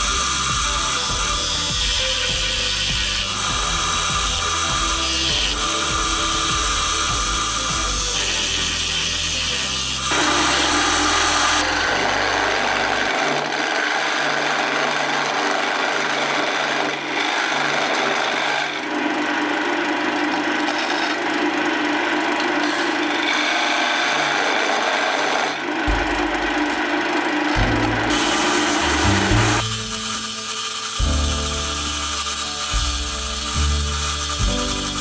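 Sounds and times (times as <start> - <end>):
tool rasping on spinning wood: 0.0 - 19.3, 22.6 - 35.0
lathe hum: 0.0 - 35.0.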